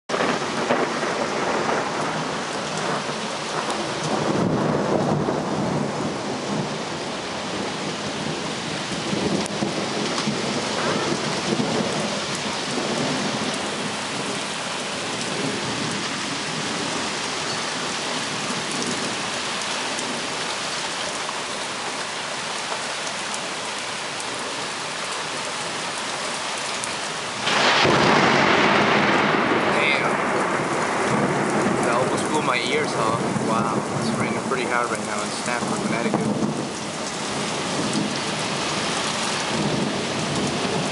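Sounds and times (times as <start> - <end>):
thunder rumbling: 0.1 - 21.6, 26.6 - 40.9
heavy rain falling: 0.1 - 40.9.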